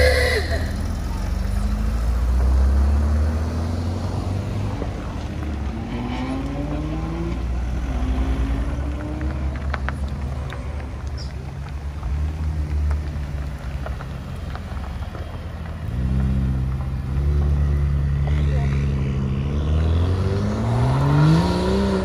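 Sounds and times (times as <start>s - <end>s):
low engine rumble: 0.0s - 20.0s
car engine accelerating: 0.0s - 22.0s.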